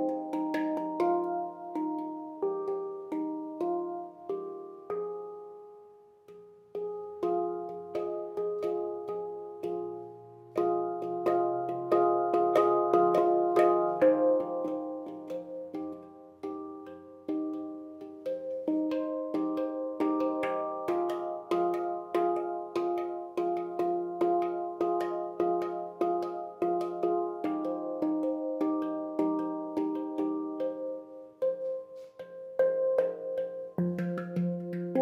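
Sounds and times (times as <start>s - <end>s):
instrumental music with struck notes: 0.0s - 35.0s.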